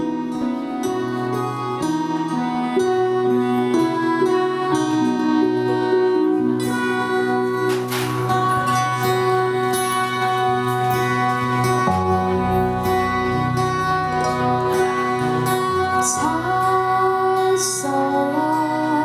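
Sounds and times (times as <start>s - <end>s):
bass notes: 0.0s - 18.7s
acoustic guitar: 0.0s - 19.0s
electric guitar: 0.0s - 19.0s
keyboard chords: 0.0s - 19.0s.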